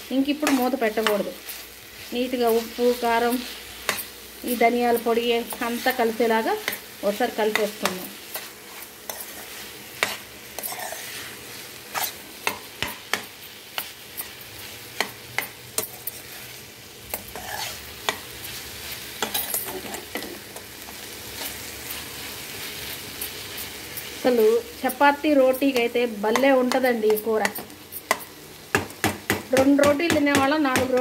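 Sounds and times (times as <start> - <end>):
food sizzling: 0.0 - 31.0
spoon scraping a pan: 0.4 - 28.4.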